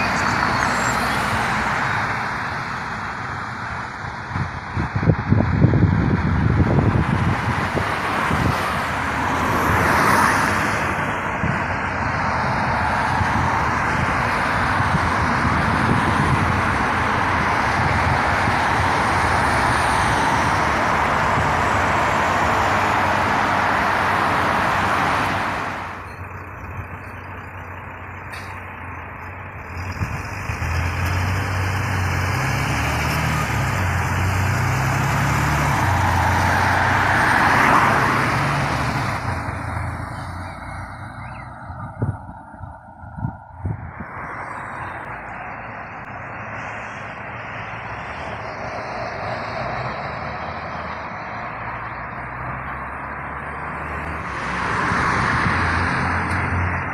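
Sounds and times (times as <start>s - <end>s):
bus engine low drone: 0.0s - 56.9s
road traffic passing: 0.0s - 56.9s.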